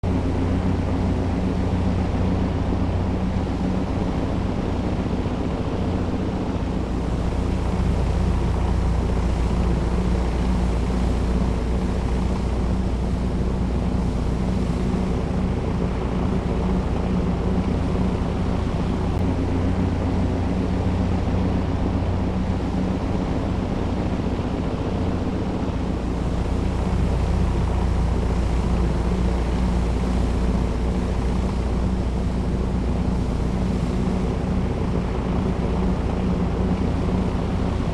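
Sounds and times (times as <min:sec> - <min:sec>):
low mechanical drone: 0:00.0 - 0:37.9
steady tonal hum: 0:00.0 - 0:37.9.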